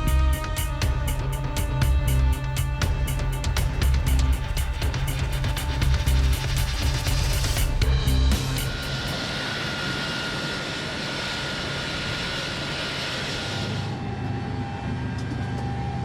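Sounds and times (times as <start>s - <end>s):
aircraft engine rush: 0.0s - 16.0s
low hum: 0.0s - 16.0s
thin steady whine: 0.0s - 16.0s.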